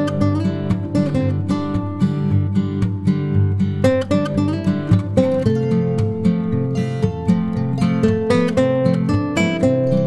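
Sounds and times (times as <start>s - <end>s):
bass: 0.0s - 10.0s
strummed acoustic guitar: 0.0s - 10.0s.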